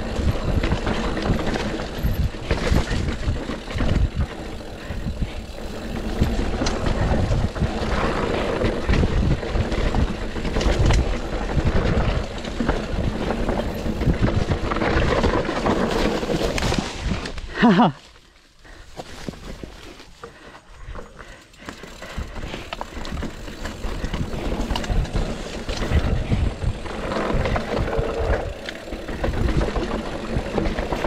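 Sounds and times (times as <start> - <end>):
wind buffeting microphone: 0.0 - 17.4, 21.8 - 31.0
bike rattling over rocks: 0.0 - 31.0.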